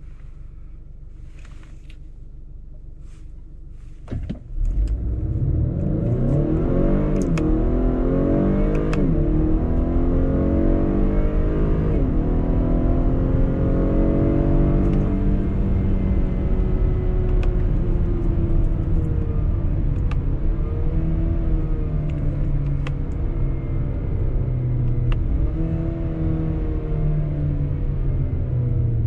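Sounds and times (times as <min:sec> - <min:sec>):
car engine revving through upshifts: 0:04.6 - 0:28.5.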